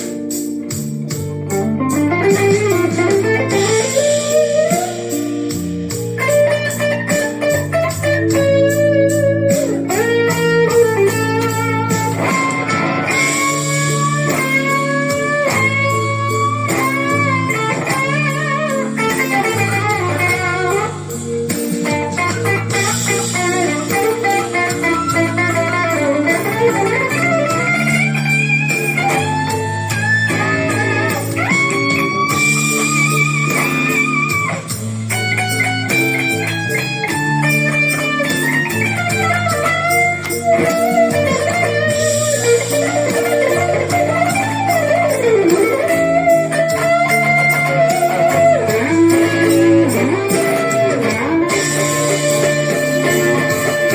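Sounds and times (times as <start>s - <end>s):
bass and drums backing track: 0.0s - 53.9s
electric guitar lead: 0.0s - 53.9s.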